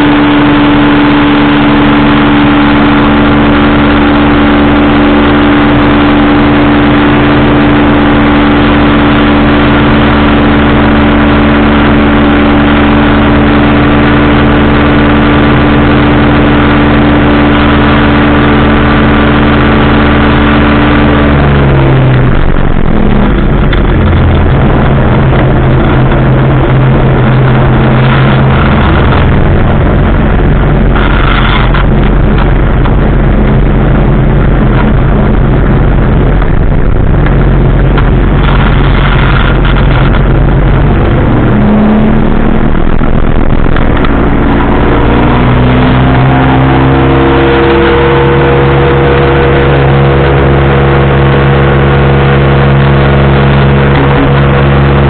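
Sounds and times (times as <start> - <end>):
engine and propeller in flight: 0.0 - 55.0.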